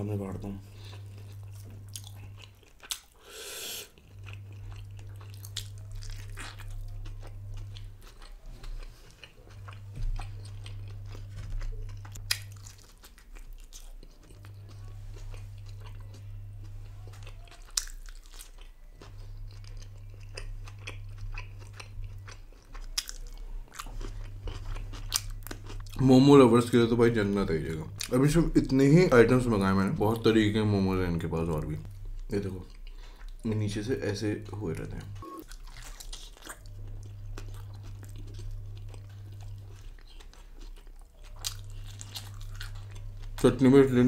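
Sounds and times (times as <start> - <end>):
low hum: 0.0 - 44.0
close-up chewing: 0.8 - 26.8, 31.9 - 33.6, 34.4 - 43.7.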